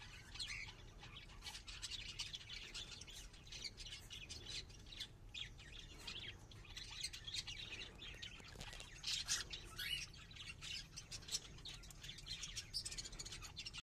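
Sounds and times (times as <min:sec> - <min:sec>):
cockatiels chirping and squawking: 0:00.0 - 0:13.8.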